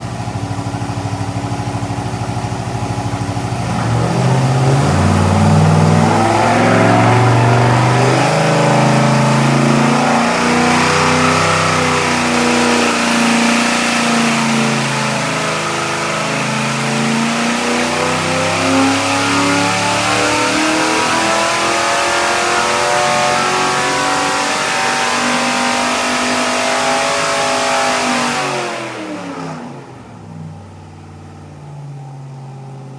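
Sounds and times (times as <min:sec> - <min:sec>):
engine revving on a dyno: 0:00.0 - 0:32.9.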